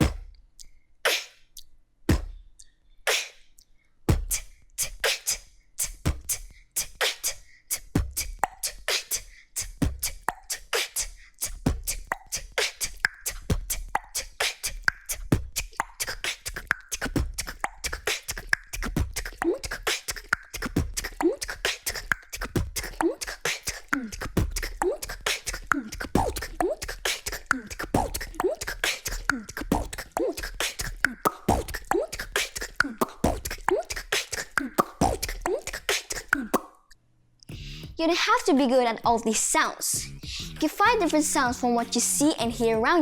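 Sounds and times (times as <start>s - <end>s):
vocal beatbox: 0.0s - 36.9s, 37.5s - 43.0s.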